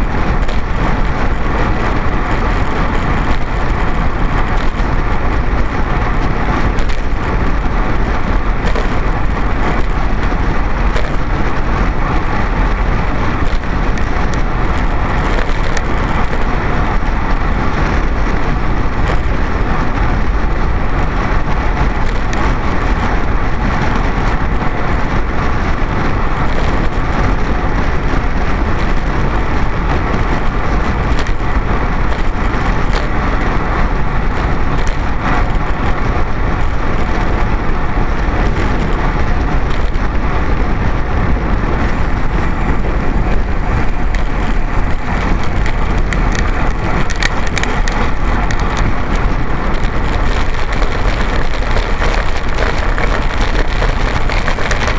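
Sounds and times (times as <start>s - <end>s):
bicycle tyre and road noise: 0.0s - 54.9s
wind rush on microphone: 0.0s - 54.9s.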